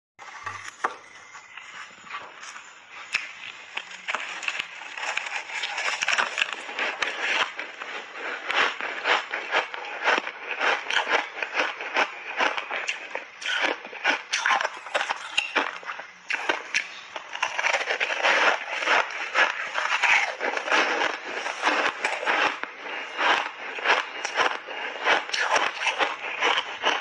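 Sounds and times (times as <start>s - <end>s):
ice crunching being chewed: 0.3s - 27.0s.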